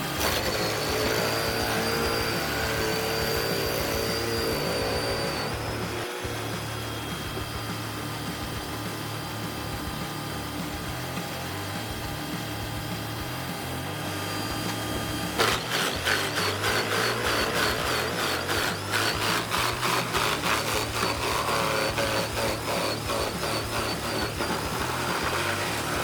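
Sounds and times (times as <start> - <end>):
machine engine running: 0.0 - 26.0.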